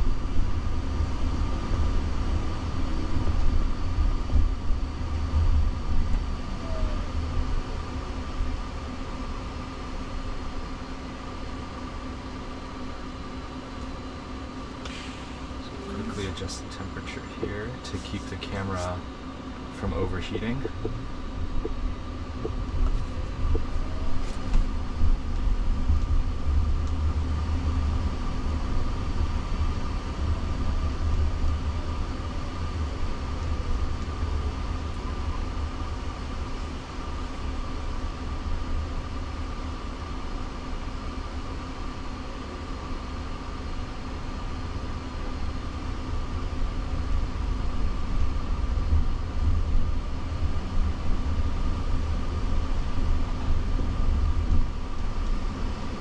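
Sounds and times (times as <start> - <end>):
faint steady hum: 0.0 - 56.0
road and tyre rumble: 0.0 - 56.0.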